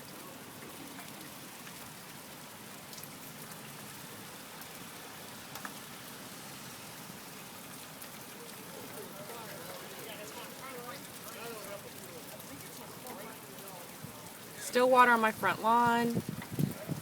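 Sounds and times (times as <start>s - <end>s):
raindrop ticks: 0.0s - 6.0s, 7.3s - 17.0s
steady rain falling: 0.0s - 17.0s.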